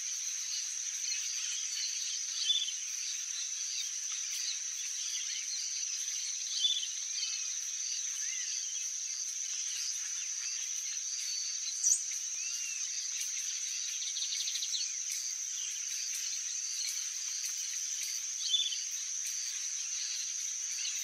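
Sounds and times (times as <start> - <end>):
small birds calling: 0.0 - 21.0.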